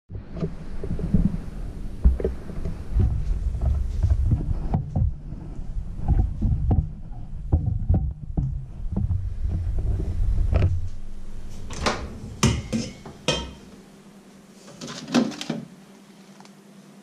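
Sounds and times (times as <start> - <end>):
low rumble: 0.1 - 14.2.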